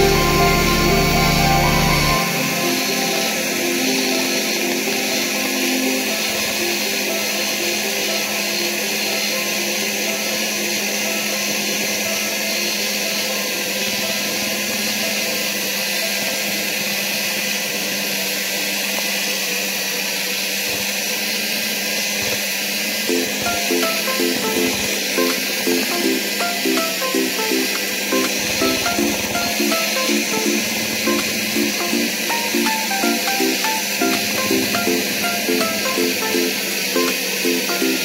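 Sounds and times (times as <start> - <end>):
electric mixer running: 0.0 - 38.0.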